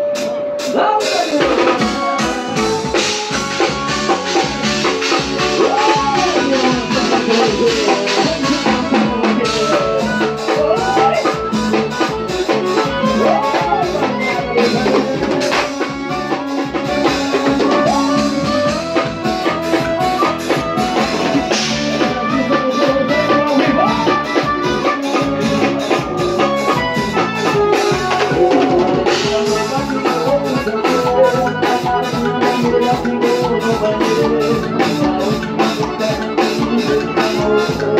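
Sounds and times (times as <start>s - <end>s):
drum kit steady beat: 0.0s - 37.9s
piano accordion melody: 1.6s - 37.9s.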